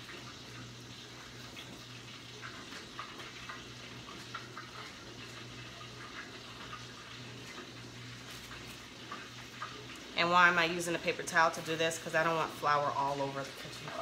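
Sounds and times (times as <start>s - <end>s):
food frying in oil: 0.0s - 14.0s
low steady hum: 0.0s - 14.0s.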